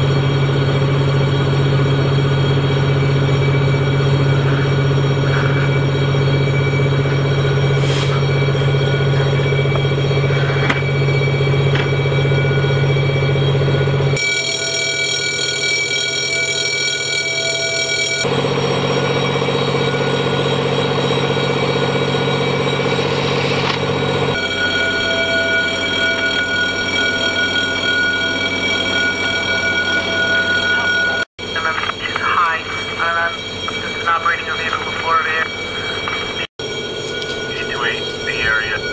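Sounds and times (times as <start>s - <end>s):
machine running with held tones: 0.0s - 38.9s.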